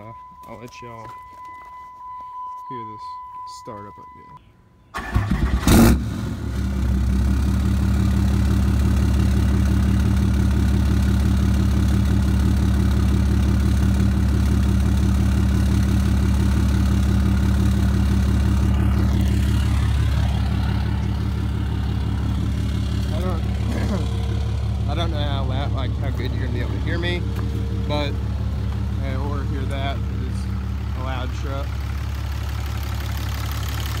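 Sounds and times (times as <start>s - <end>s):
diesel engine idling: 6.3s - 34.0s.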